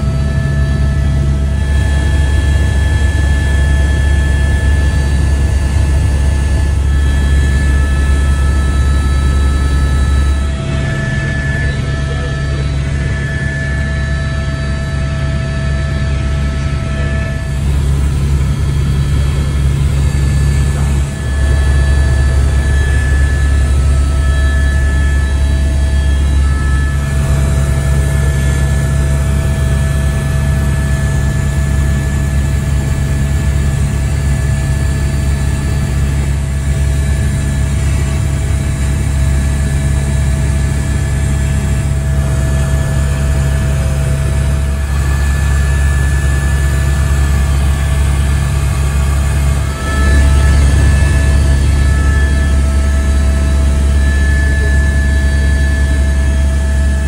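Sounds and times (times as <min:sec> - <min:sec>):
helicopter rotor and engine drone: 0:00.0 - 0:57.0
thin steady whines: 0:00.0 - 0:57.0.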